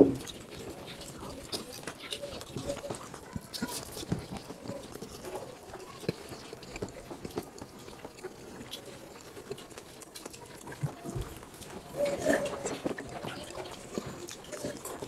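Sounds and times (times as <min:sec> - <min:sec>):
chewing and mouth smacking: 0:00.0 - 0:15.0.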